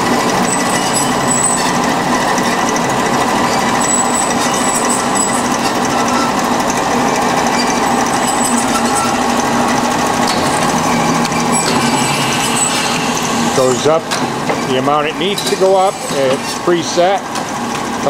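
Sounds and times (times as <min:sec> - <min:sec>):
band saw cutting: 0:00.0 - 0:18.0.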